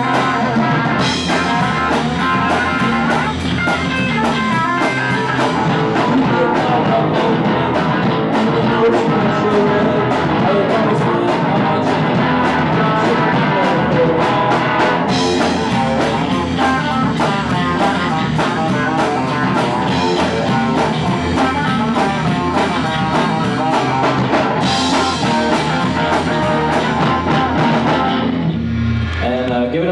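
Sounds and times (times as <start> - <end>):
drum beat with cymbals: 0.0 - 28.5
rock band playing: 0.0 - 29.5.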